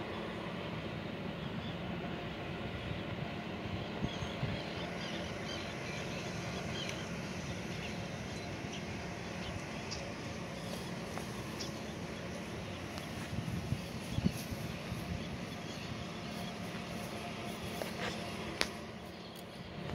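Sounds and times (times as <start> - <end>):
faint continuous hum: 0.0 - 19.9
low outdoor rumble: 0.0 - 19.9.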